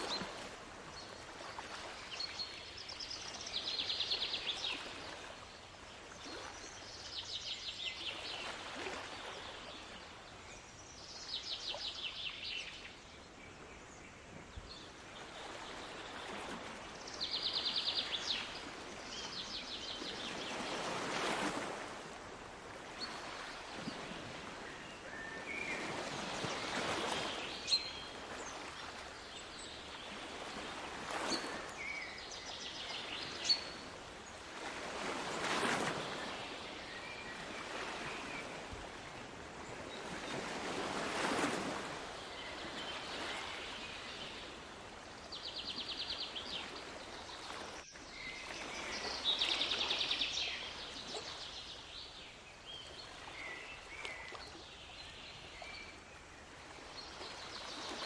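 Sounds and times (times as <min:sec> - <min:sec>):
sea waves washing ashore: 0:00.0 - 0:13.0, 0:14.5 - 0:58.0.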